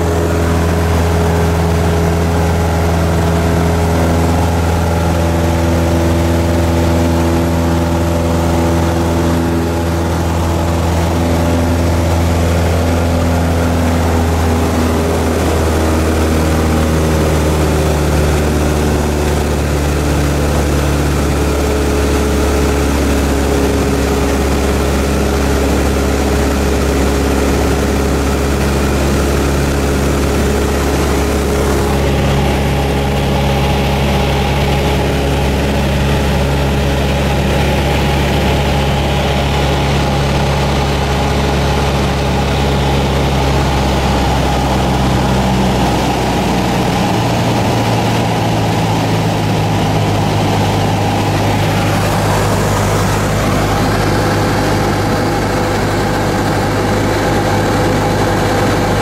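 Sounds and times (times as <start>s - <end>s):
airplane engine droning in cabin: 0.0s - 59.0s.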